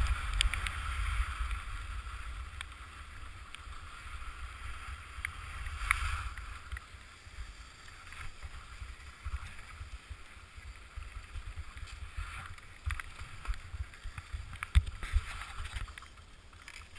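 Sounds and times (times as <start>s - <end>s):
skis sliding on snow: 0.0s - 16.9s
wind rumbling on microphone: 0.0s - 16.9s.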